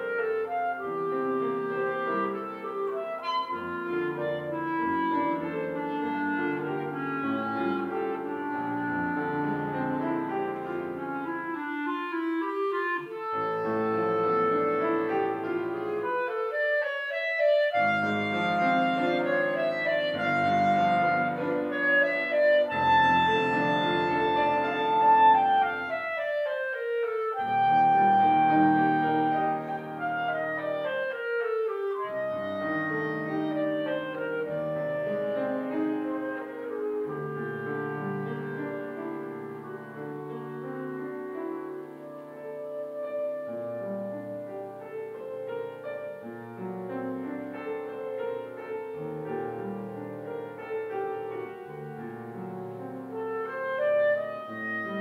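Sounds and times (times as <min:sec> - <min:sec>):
clarinet melody: 0:00.0 - 0:55.0
piano accompaniment: 0:00.0 - 0:55.0.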